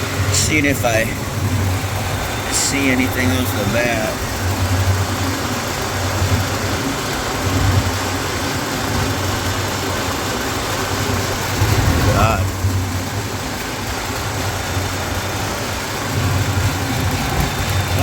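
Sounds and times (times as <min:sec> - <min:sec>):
fan rushing noise: 0:00.0 - 0:18.0
refrigeration unit humming: 0:00.0 - 0:18.0.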